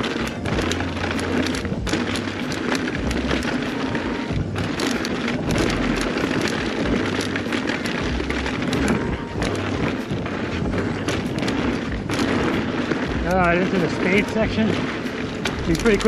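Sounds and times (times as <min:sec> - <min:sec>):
bike rattling over bumps: 0:00.0 - 0:16.0
tyres on loose dirt: 0:00.0 - 0:16.0.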